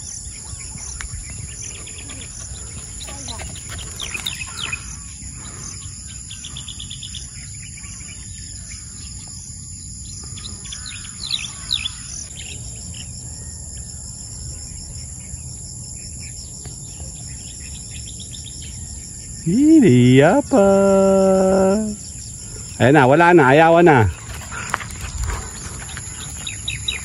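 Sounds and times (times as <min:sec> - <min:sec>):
birds chirping: 0:00.0 - 0:27.0
insects trilling: 0:00.0 - 0:27.0.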